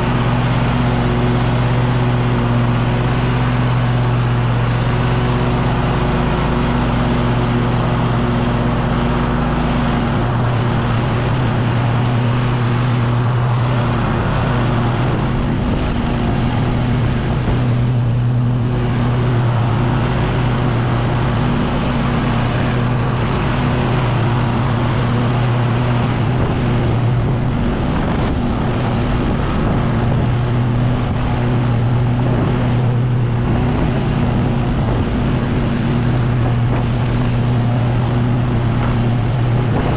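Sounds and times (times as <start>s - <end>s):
leaf blower engine drone: 0.0s - 39.9s.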